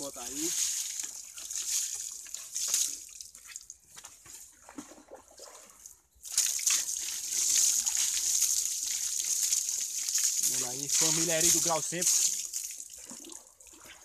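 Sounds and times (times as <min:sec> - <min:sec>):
water poured and splashing: 0:00.0 - 0:03.9, 0:04.5 - 0:14.0
water trickling and dripping: 0:00.0 - 0:14.0.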